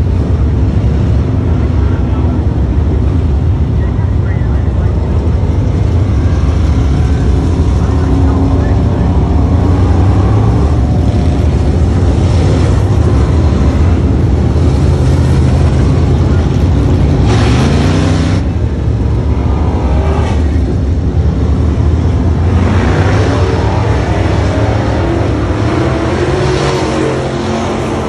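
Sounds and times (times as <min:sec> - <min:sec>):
race car engines droning: 0:00.0 - 0:28.0.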